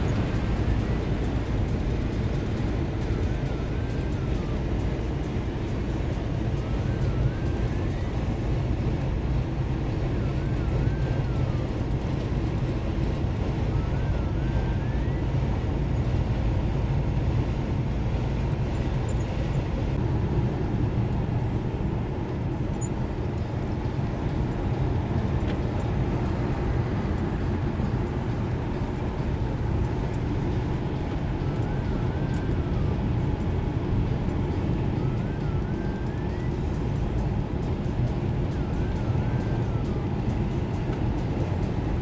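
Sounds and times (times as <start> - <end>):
road noise: 0.0 - 42.0
truck engine drone: 0.0 - 42.0.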